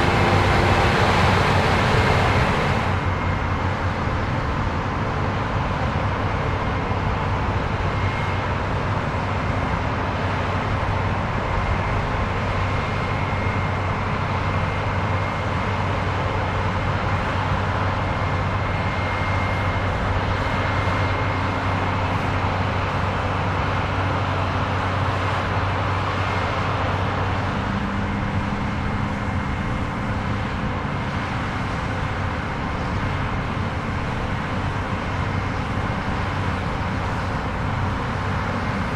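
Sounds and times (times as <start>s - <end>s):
combine harvester humming: 0.0s - 38.9s.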